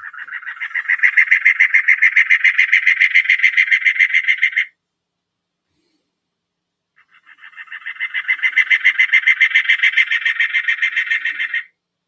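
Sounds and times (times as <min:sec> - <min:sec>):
cactus wren song: 0:00.0 - 0:04.8, 0:06.9 - 0:12.0.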